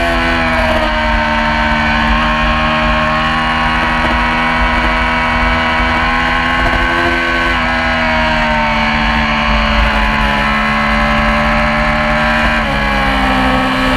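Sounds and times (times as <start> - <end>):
low wind rumble: 0.0 - 13.9
motorcycle engine at high revs: 0.0 - 13.9.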